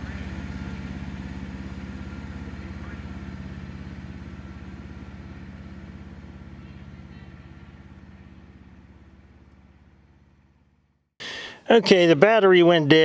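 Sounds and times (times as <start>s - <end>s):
engine running at low speed: 0.0s - 11.6s.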